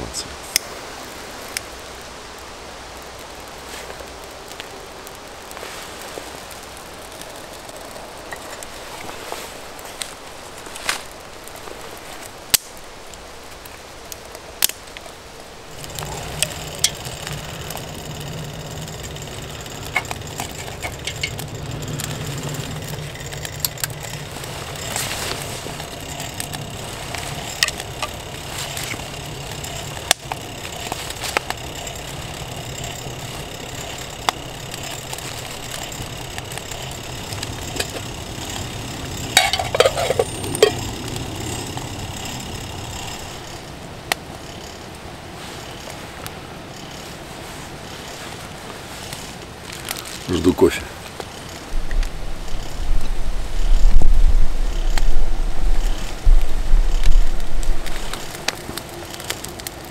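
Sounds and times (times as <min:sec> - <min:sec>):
fire crackling: 0:00.0 - 0:59.9
low rumble of fire: 0:00.0 - 0:59.9.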